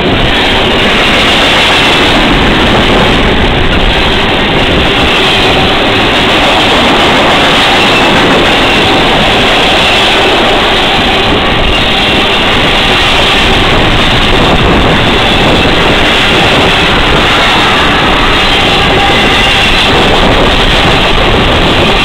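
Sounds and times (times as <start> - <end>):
freight train wheels rumbling on rails: 0.0 - 22.0.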